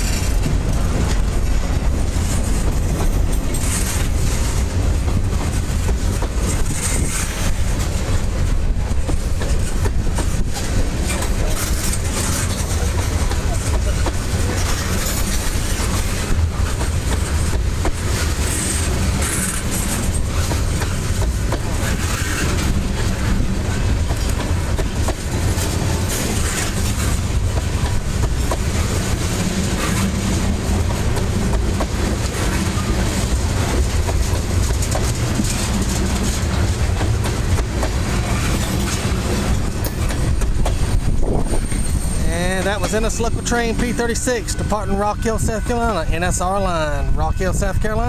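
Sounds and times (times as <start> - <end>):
wheels clickety-clack: 0.0 - 45.7
train wheels rumbling on rails: 0.0 - 48.0.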